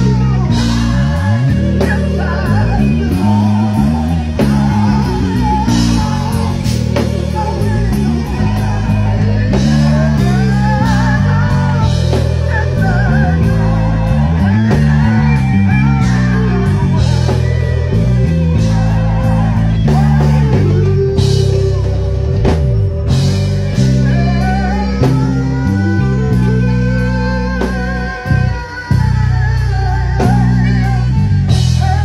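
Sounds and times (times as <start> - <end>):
gospel band playing: 0.0 - 32.0.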